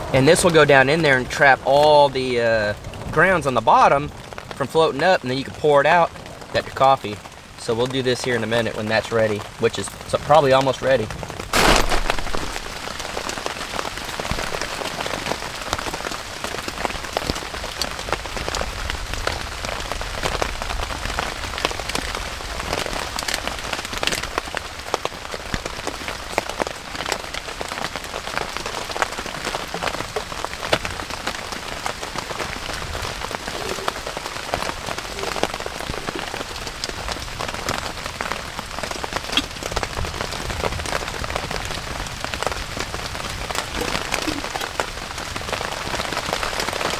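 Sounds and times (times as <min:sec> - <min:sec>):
raindrops ticking on surfaces: 0:00.0 - 0:46.9
steady rain falling: 0:00.0 - 0:46.9.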